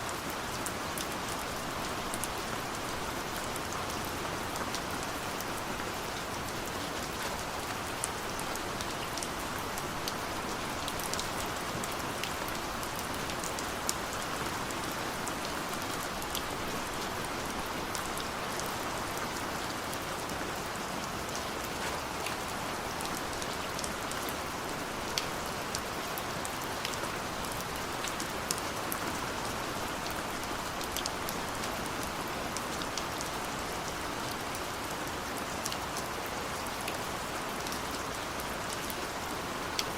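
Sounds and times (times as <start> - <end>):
raindrops ticking on a surface: 0.1 - 39.9.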